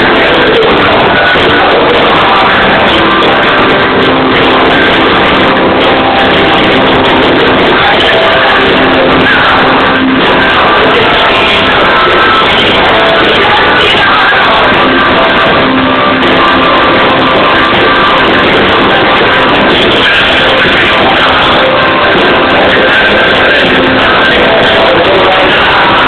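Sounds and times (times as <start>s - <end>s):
distorted live band music: 0.0s - 26.0s.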